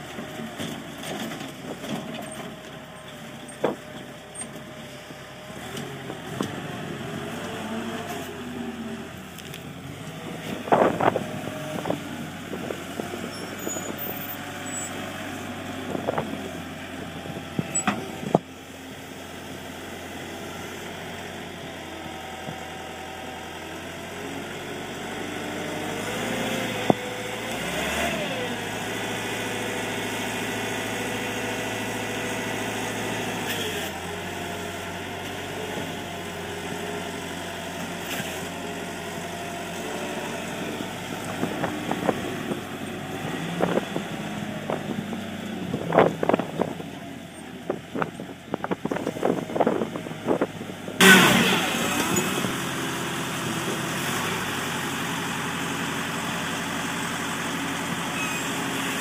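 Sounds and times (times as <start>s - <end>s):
diesel loader engine running: 0.0s - 59.0s.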